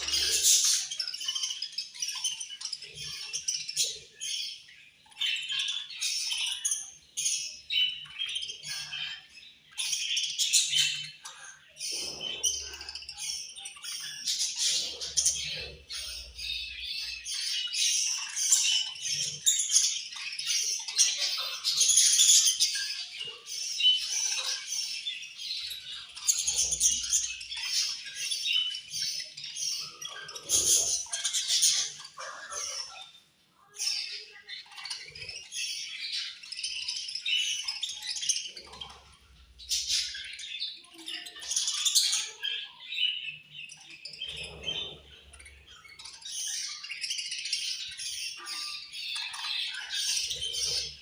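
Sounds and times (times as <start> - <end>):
budgerigars chattering and chirping: 0.0 - 51.0.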